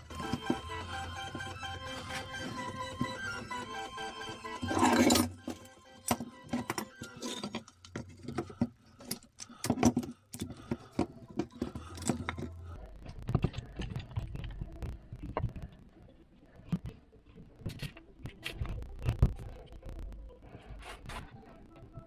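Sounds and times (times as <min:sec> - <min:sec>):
wooden parts clicking and knocking: 0:00.0 - 0:20.3.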